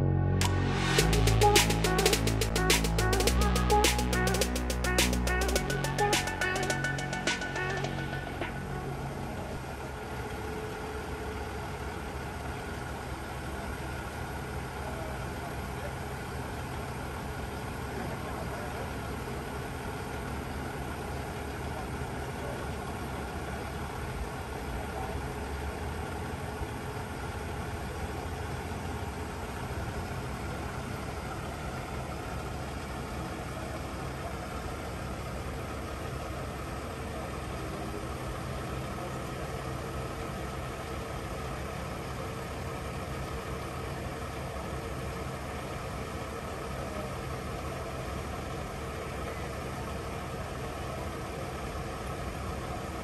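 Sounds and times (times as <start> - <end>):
diesel truck engine humming: 0.0 - 53.0.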